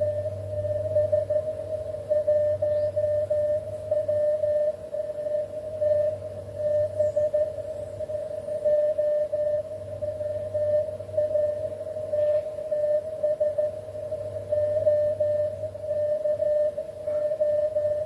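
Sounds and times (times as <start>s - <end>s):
faint low hum: 0.0s - 18.0s
morse code tone: 0.0s - 18.0s.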